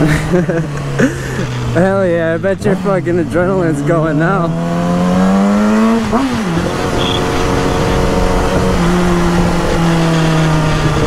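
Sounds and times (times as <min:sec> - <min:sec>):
motorcycle engine: 0:00.0 - 0:11.0.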